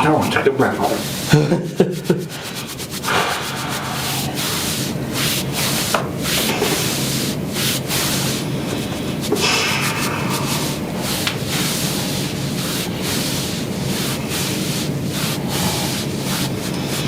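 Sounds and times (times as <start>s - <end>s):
rubbing scraping friction: 1.1s - 17.0s.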